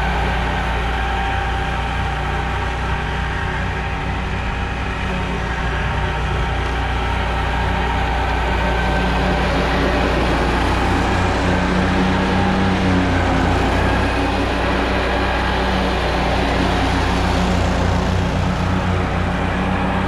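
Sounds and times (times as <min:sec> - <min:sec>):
riding lawn mower engine running: 0:00.0 - 0:20.0.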